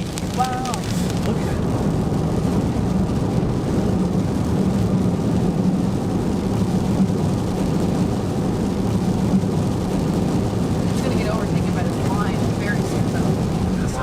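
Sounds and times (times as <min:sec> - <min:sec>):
car cabin road and engine drone: 0:00.0 - 0:14.0.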